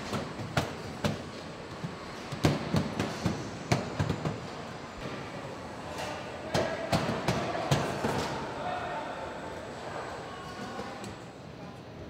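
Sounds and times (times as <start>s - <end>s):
factory hum: 0.0s - 12.0s.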